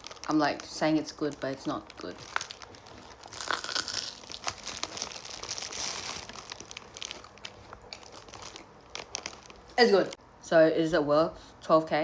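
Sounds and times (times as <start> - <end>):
crispy food being chewed: 0.0 - 10.2.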